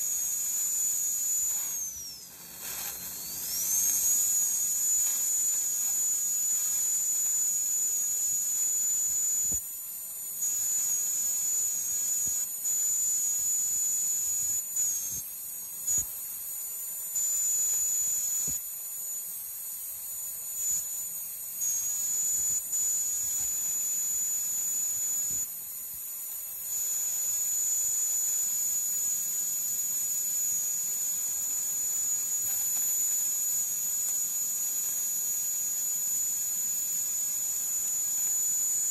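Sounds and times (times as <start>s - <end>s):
dental drill whining: 0.0s - 38.9s.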